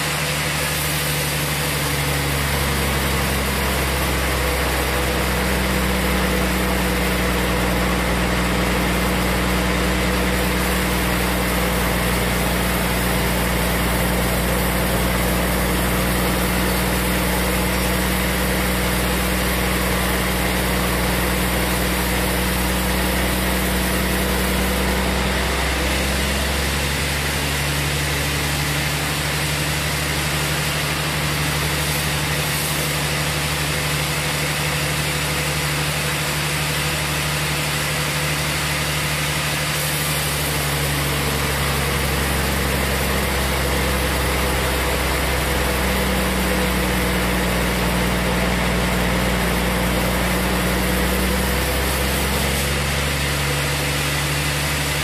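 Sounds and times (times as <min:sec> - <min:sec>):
band sawmill humming: 0:00.0 - 0:55.0.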